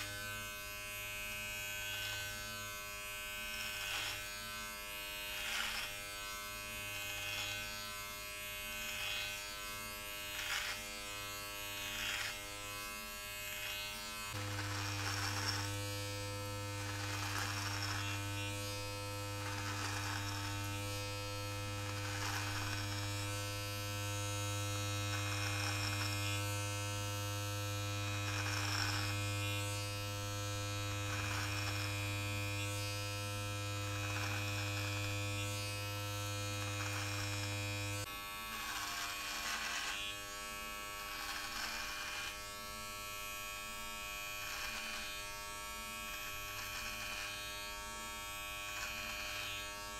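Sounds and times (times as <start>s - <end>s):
electric hair trimmer buzzing: 0.0s - 49.9s
trimmer rasping through beard hair: 0.0s - 49.9s.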